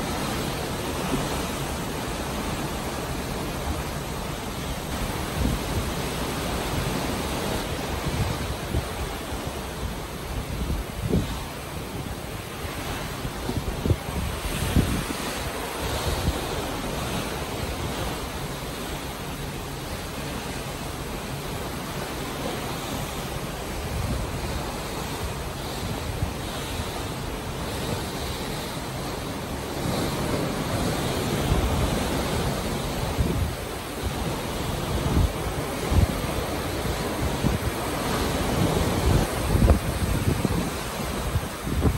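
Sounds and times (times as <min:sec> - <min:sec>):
wind buffeting microphone: 0:00.0 - 0:19.2, 0:19.8 - 0:41.9
sea water churning: 0:00.0 - 0:41.9.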